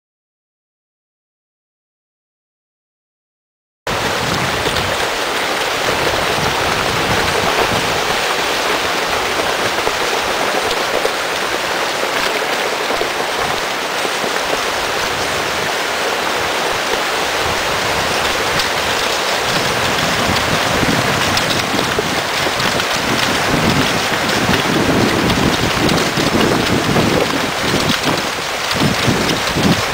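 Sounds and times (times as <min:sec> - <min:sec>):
fast-flowing river rushing: 0:03.9 - 0:29.9.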